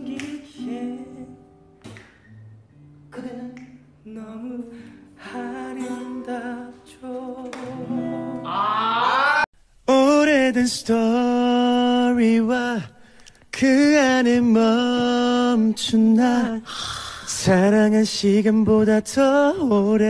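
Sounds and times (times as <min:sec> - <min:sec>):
man singing with vibrato: 0:00.0 - 0:01.6, 0:03.2 - 0:20.0.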